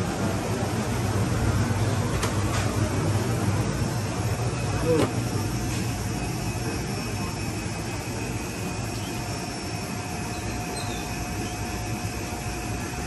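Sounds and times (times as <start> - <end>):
engine-like drone: 0.0 - 13.0
faint steady whine: 0.0 - 13.0.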